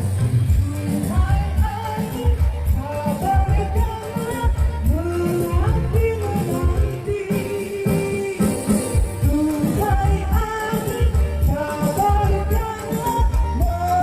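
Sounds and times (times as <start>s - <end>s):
bass-heavy beat: 0.0s - 14.0s
person singing: 0.0s - 14.0s
shaker percussion: 0.0s - 14.0s.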